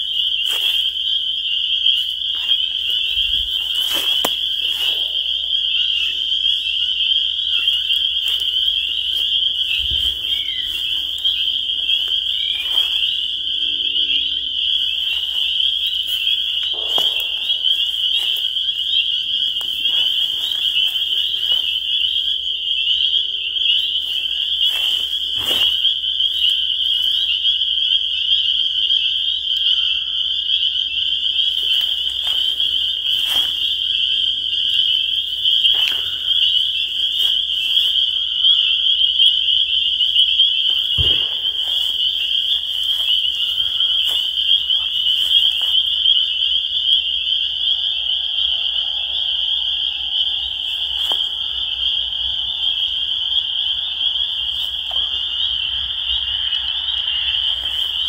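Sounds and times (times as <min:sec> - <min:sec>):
spring peepers chorus: 0:00.0 - 0:58.0.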